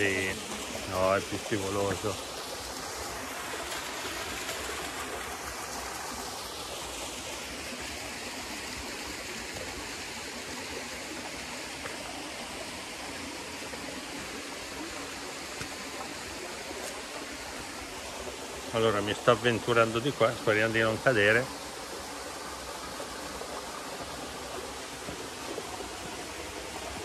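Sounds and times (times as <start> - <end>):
mountain stream rushing over waterfalls: 0.0 - 27.0.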